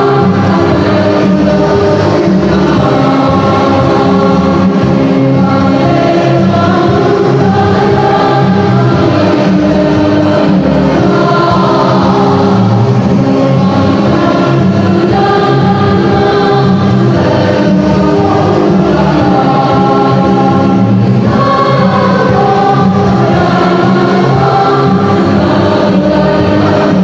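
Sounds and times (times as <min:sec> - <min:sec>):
choir singing a march: 0:00.0 - 0:27.0.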